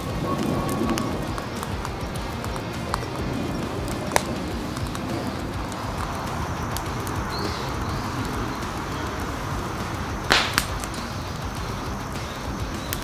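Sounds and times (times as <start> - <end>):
firewood burning and crackling: 0.0 - 13.0
loud pop of fire: 0.0 - 13.0.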